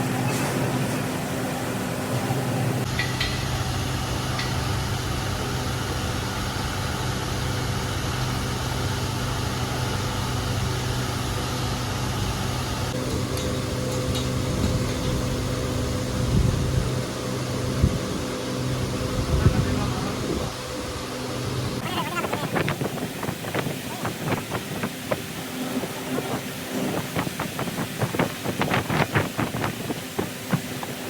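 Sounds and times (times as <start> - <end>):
motor humming with rushing air: 0.0 - 31.0.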